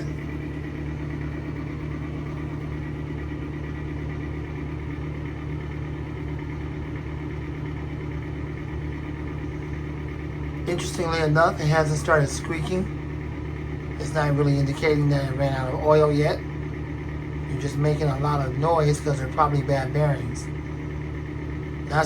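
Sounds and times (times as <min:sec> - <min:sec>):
exhaust fan droning: 0:00.0 - 0:22.0.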